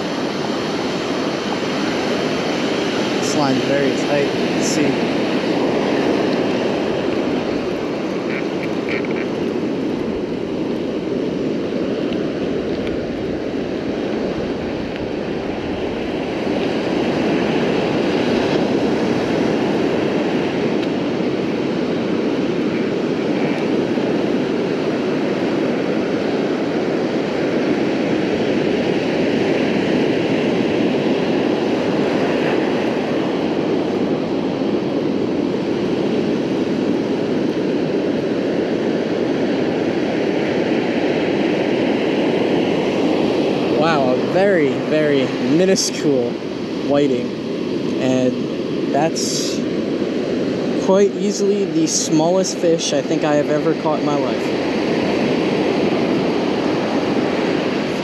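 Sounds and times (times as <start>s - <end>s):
ocean surf: 0.0s - 58.0s
wind: 0.0s - 58.0s.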